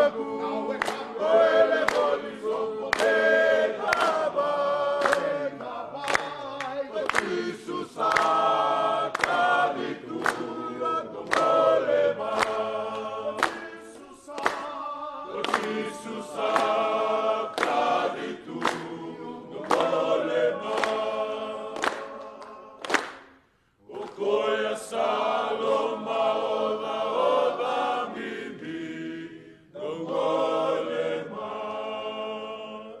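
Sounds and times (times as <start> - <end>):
men singing unaccompanied: 0.0 - 22.8, 24.0 - 33.0.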